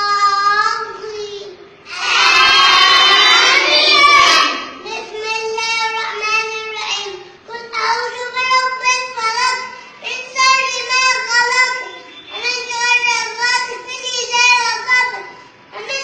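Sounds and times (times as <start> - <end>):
boy chanting recitation: 0.0 - 16.0.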